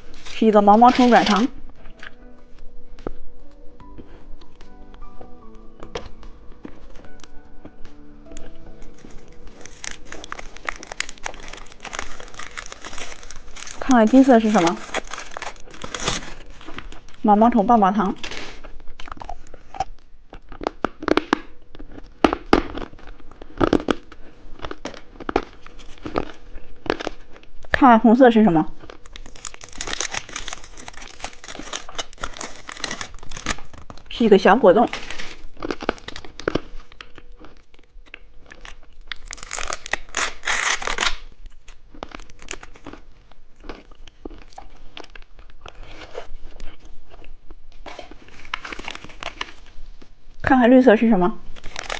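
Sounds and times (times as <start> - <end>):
plastic wrapper crinkling: 0.0 - 50.2, 51.3 - 51.9.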